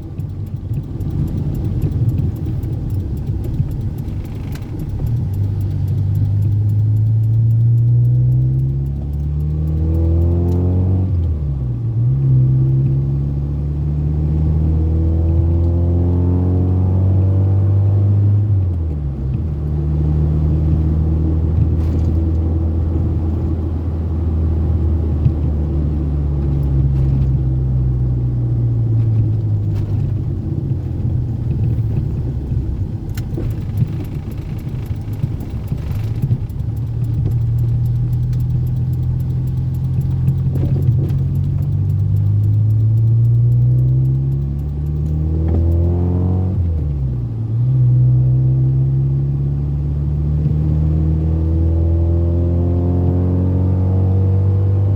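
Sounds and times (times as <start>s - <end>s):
car engine under load: 0.0s - 54.9s
road and wind noise: 0.0s - 54.9s.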